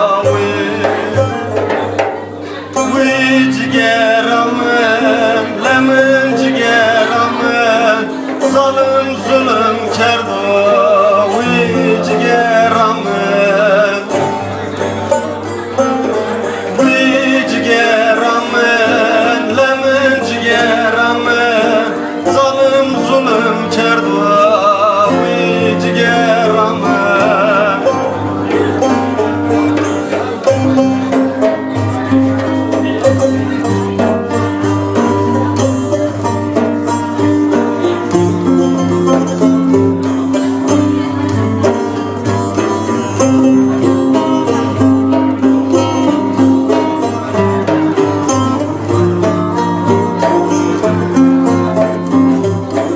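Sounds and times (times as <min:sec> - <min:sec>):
man singing: 0:00.0 - 0:52.9
plucked strings: 0:00.0 - 0:52.9.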